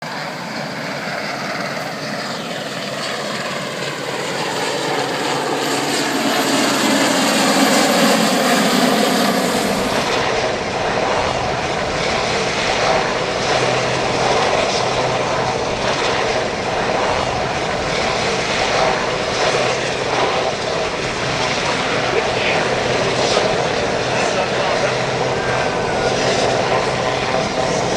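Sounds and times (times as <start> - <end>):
aircraft engine: 0.0 - 27.9.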